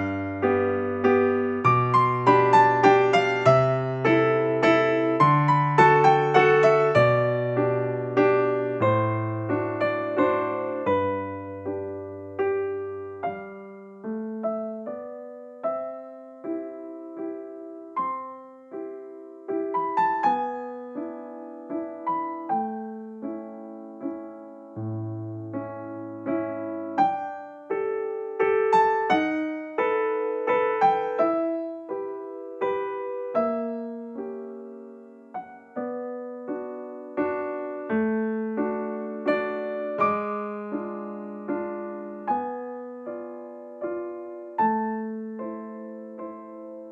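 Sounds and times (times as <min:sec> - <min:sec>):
gentle piano music: 0:00.0 - 0:46.9.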